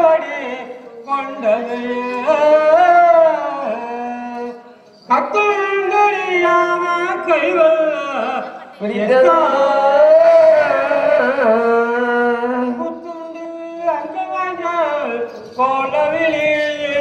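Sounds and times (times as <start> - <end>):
person singing slow melody: 0.0 - 17.0.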